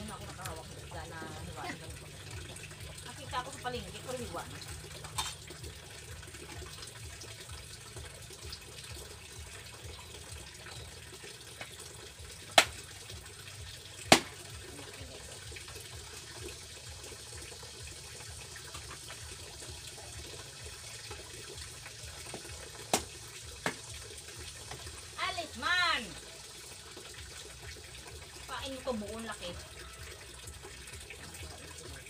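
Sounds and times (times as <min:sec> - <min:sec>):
running water: 0:00.0 - 0:32.0.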